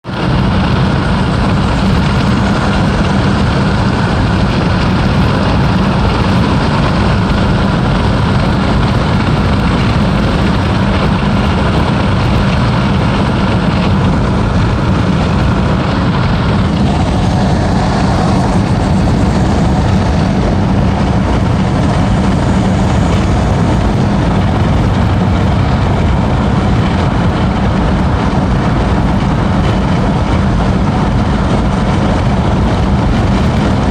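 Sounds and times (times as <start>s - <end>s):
car engine running: 0.0s - 33.9s
road noise: 0.0s - 33.9s.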